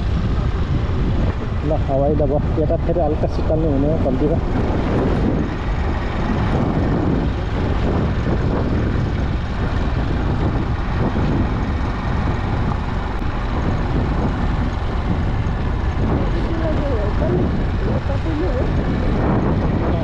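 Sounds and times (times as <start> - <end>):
vehicle rumble on road: 0.0 - 20.0
wind on microphone: 0.0 - 20.0.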